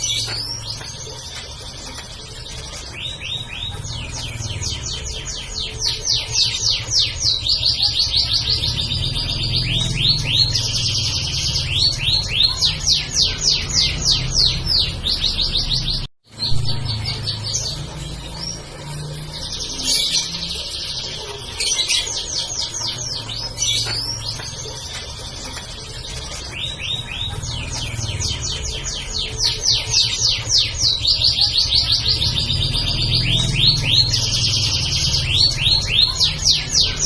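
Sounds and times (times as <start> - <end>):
canary singing trills: 0.0 - 37.0.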